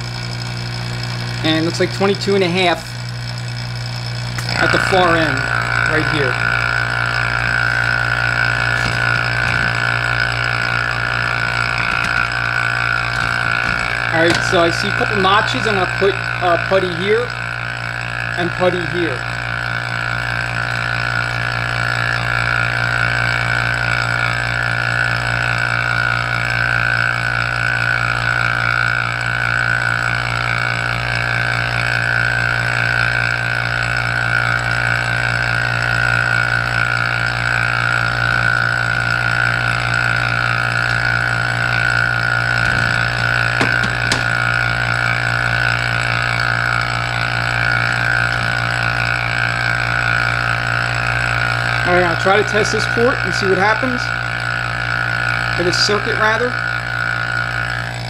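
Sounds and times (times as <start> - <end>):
vacuum pump humming and whining: 0.0 - 58.0.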